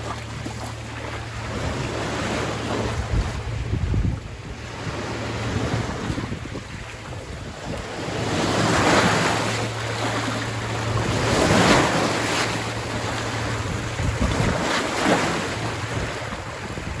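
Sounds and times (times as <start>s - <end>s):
waves washing onto sandy beach: 0.0s - 17.0s
wind on microphone: 1.0s - 17.0s.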